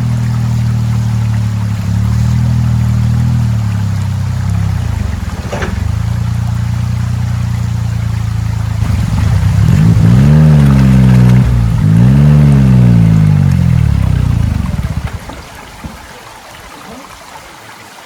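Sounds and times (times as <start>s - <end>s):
car engine running and revving: 0.0s - 15.8s.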